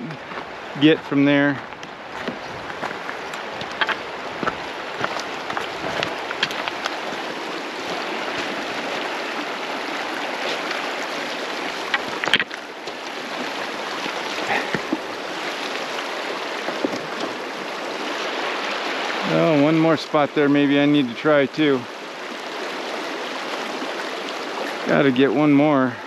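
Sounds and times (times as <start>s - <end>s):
creek rushing over stones: 0.0s - 26.0s.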